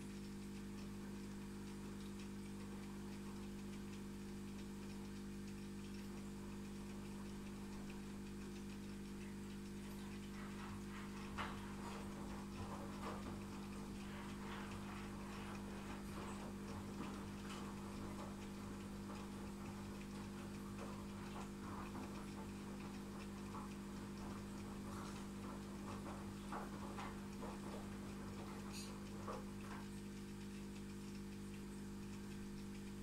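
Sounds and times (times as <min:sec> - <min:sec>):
aquarium pump humming: 0:00.0 - 0:33.0
water ticks and drips: 0:00.0 - 0:33.0.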